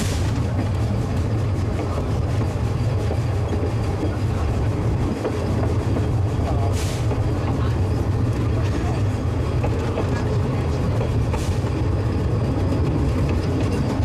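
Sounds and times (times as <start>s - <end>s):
train rumbling: 0.0s - 14.0s
wheels clicking on rails: 0.0s - 14.0s.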